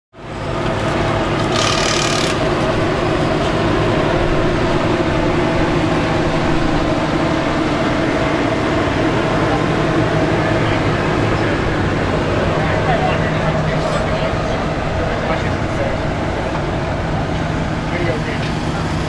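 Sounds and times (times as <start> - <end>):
engine running steadily: 0.2 - 19.0.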